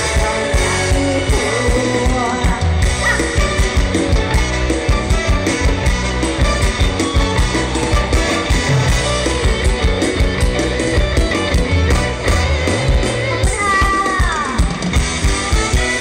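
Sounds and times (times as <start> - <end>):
drums and bass beat: 0.0 - 16.0
live band music over loudspeakers: 0.0 - 16.0.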